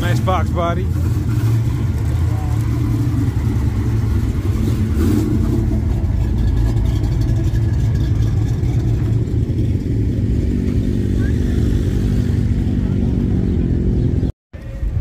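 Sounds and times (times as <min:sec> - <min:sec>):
car engine running: 0:00.0 - 0:14.3.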